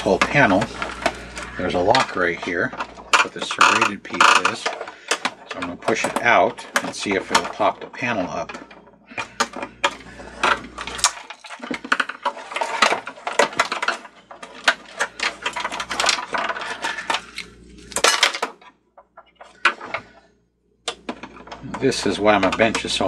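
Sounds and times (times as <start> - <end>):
plastic parts clicking and clattering: 0.0 - 20.2, 20.8 - 23.0.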